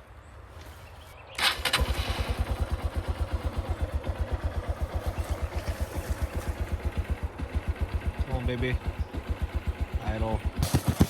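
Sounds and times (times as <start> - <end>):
motorcycle engine starting and idling: 1.3 - 11.0.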